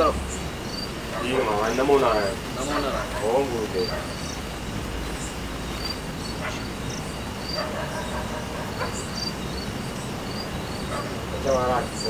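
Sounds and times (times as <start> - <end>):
insects chirping: 0.0 - 12.0
steady background hiss: 0.0 - 12.0.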